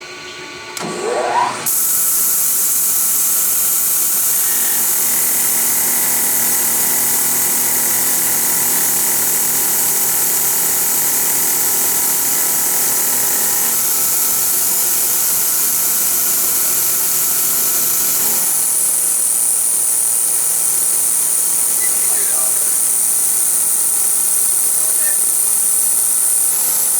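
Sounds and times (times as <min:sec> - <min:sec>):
milling machine whine and hiss: 0:00.0 - 0:26.9.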